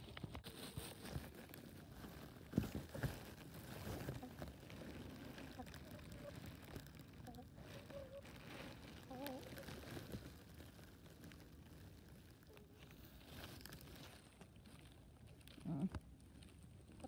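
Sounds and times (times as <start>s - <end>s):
faint ticks and rustles: 0.0s - 17.0s
hens murmuring and clucking: 0.0s - 17.0s.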